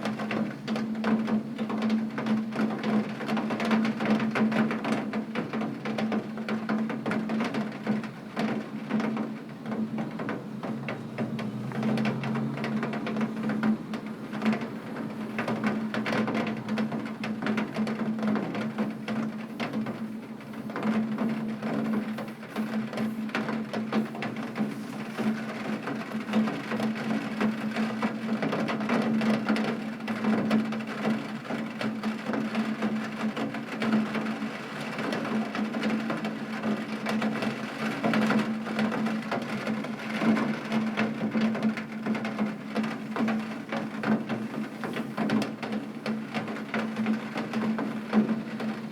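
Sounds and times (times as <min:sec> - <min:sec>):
rain on a tin roof: 0:00.0 - 0:48.9.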